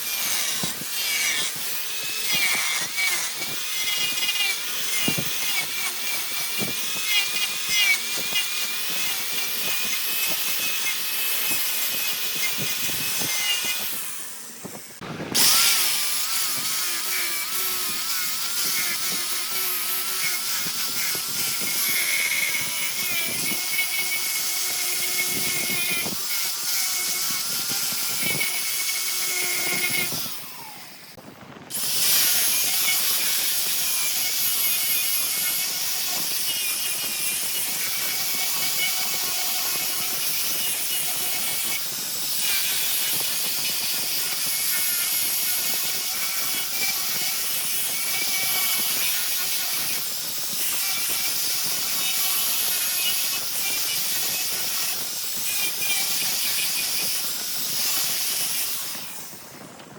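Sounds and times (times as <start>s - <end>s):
wood lathe tool cutting log: 0.0s - 59.9s.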